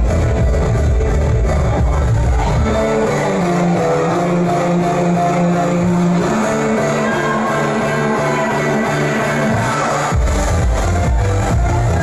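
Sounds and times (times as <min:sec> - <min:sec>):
loud music with pulsing bass: 0:00.0 - 0:12.0.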